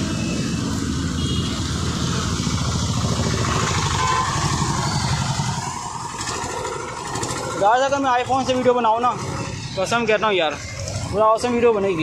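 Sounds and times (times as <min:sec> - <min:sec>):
motorcycle engine running: 0:00.0 - 0:11.9
road traffic: 0:00.0 - 0:12.0.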